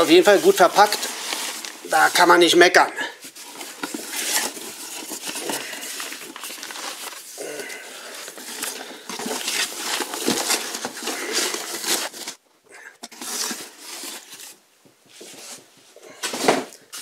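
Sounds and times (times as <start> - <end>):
packing paper rustling: 0.0 - 12.4, 13.0 - 14.6.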